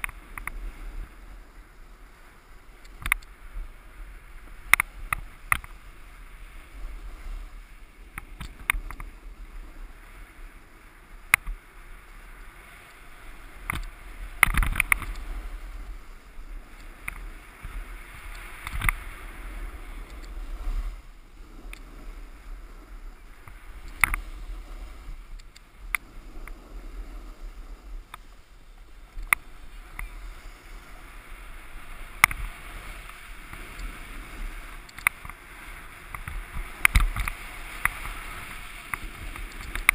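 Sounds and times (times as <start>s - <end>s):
snowboard scraping on snow: 0.0s - 39.9s.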